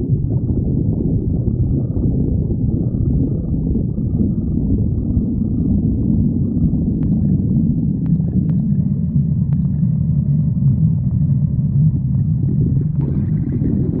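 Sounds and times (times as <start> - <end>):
stomach growling: 0.0 - 14.0.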